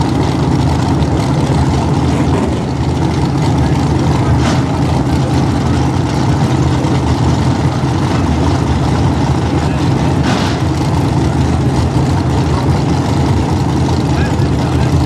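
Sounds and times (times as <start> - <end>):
racing engines idling: 0.0 - 15.0.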